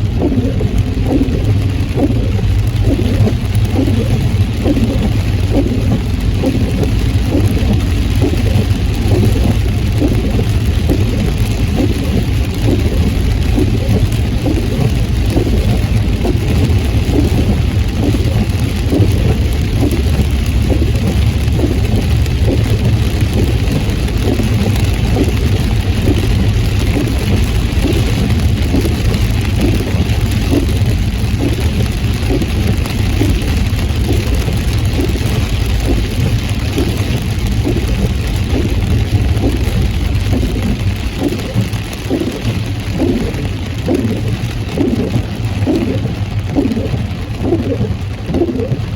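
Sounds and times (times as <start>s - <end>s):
heavy rain on a car: 0.0s - 48.9s
road and engine rumble: 0.0s - 48.9s.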